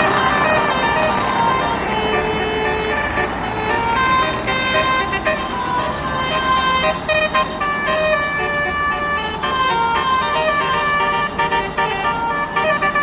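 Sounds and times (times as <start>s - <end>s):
bus musical horn melody: 0.0s - 13.0s.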